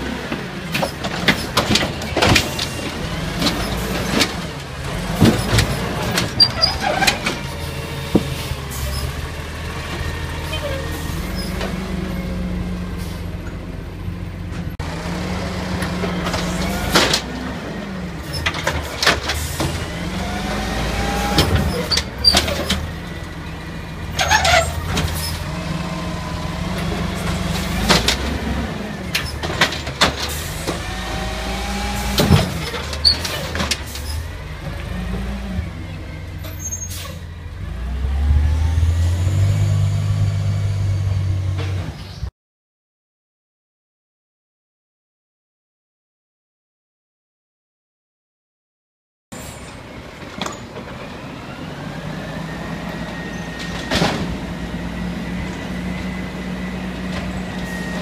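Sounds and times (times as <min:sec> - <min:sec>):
garbage truck engine running: 0:00.0 - 0:42.0, 0:49.6 - 0:58.0.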